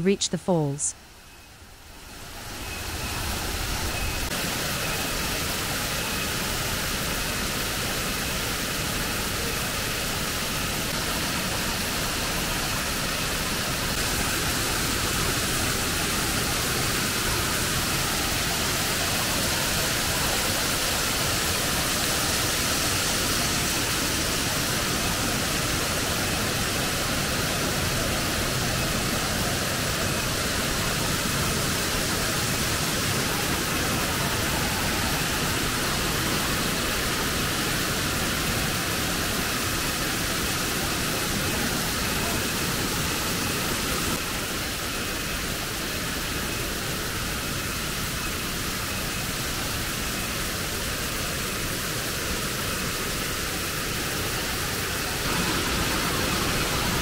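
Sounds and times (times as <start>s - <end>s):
waterfall rushing: 3.0s - 57.0s.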